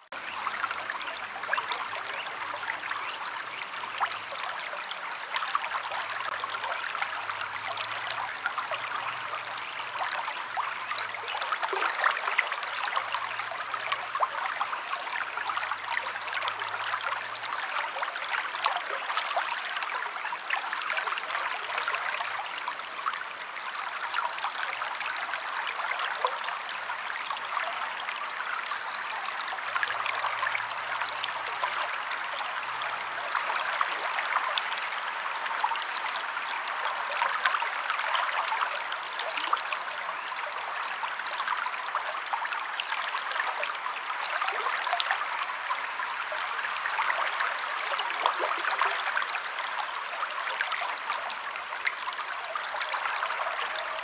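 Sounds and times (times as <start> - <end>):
river flowing: 0.2 - 54.0.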